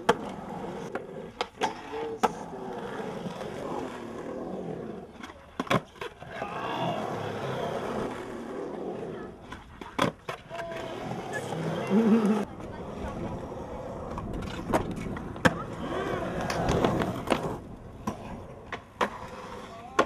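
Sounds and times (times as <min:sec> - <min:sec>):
skateboard clacks: 0:00.0 - 0:04.2, 0:05.0 - 0:20.0
skateboard wheels rolling on concrete: 0:00.0 - 0:20.0.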